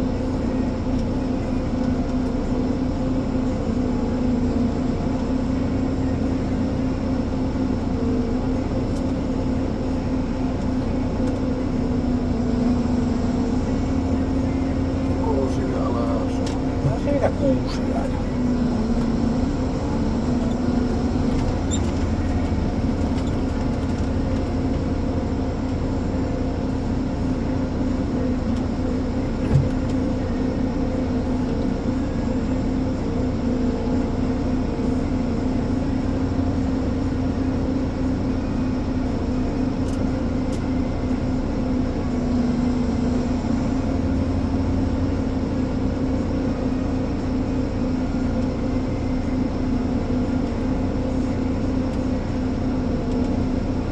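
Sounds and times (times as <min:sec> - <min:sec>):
diesel engine droning: 0:00.0 - 0:53.9.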